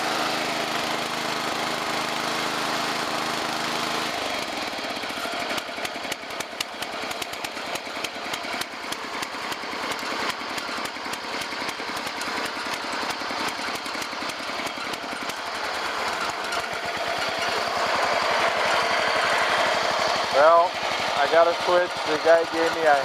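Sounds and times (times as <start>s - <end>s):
small gasoline engine running: 0.0s - 23.0s.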